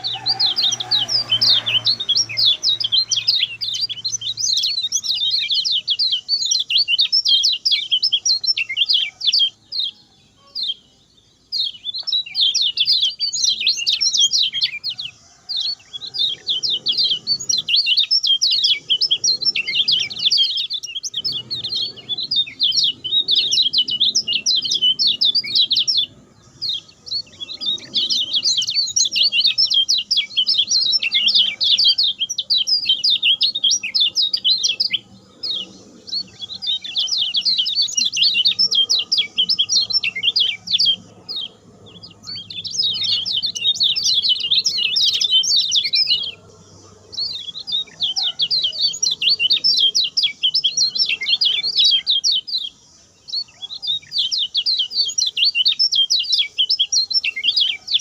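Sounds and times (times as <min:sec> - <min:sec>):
bird twittering: 0:00.0 - 0:58.0.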